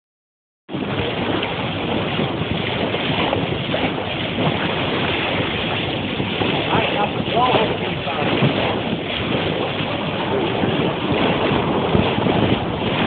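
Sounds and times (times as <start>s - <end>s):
water rushing along hull: 0.7s - 13.0s
wind buffeting microphone: 0.7s - 13.0s.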